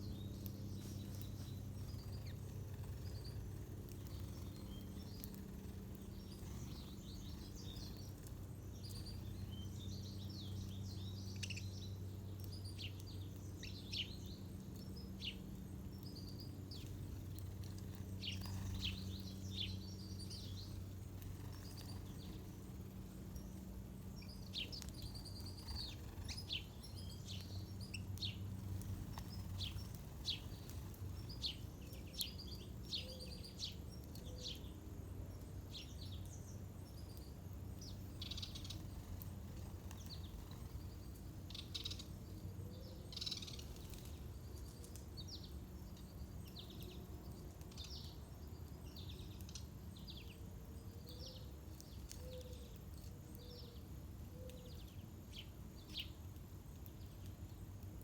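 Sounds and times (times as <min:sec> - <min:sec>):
low background rumble: 0:00.0 - 0:51.3
small birds chirping: 0:00.0 - 0:58.0.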